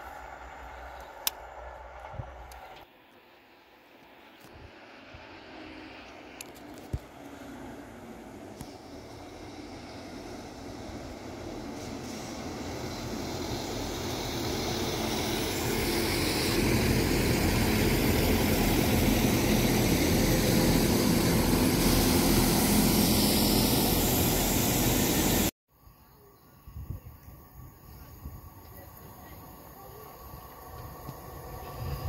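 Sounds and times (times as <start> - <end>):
diesel train passing: 0.0 - 25.5, 27.3 - 32.0.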